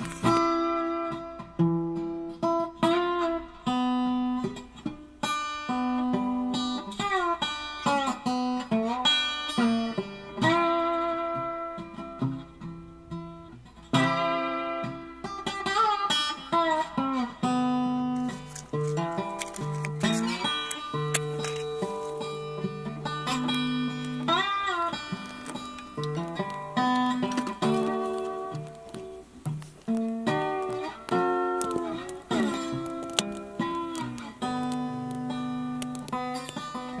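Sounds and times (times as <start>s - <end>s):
acoustic guitar with sliding notes: 0.0s - 37.0s.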